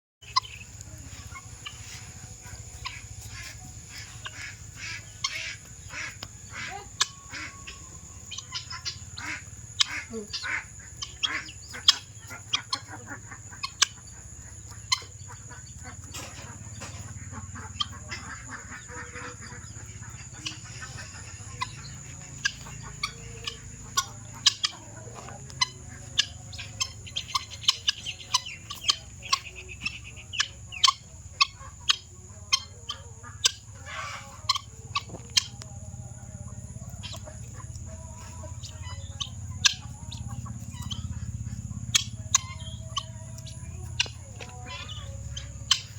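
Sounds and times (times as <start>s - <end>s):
guinea fowl harsh calls: 0.2s - 35.9s, 36.5s - 45.9s.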